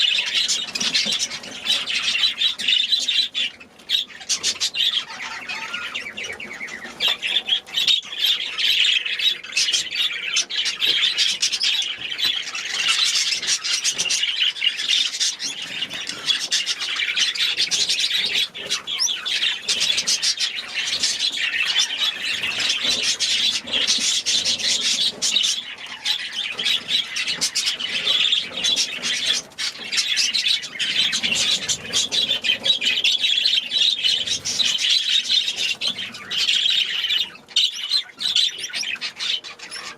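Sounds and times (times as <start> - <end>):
small birds chattering and squawking: 0.0 - 39.9.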